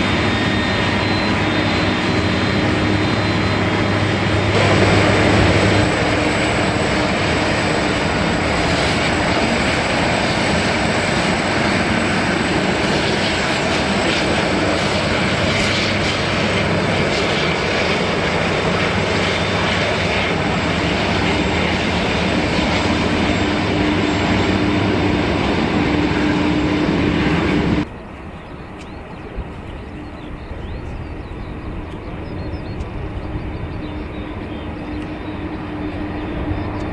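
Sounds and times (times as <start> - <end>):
airliner engines roaring: 0.0 - 36.9
high engine whine: 0.0 - 36.9.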